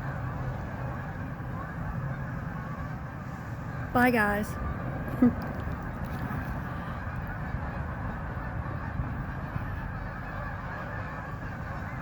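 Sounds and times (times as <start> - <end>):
geese honking: 0.0 - 5.1, 5.8 - 12.0.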